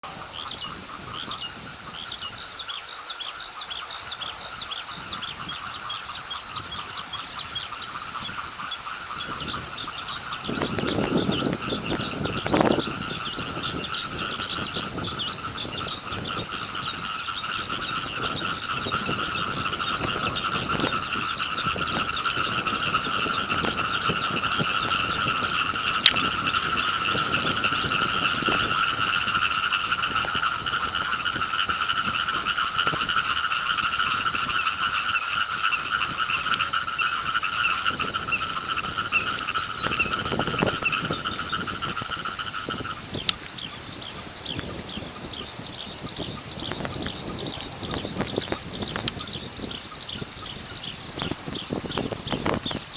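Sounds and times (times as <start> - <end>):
frogs calling in chorus: 0.0 - 52.9
skylark song twittering: 0.0 - 52.9.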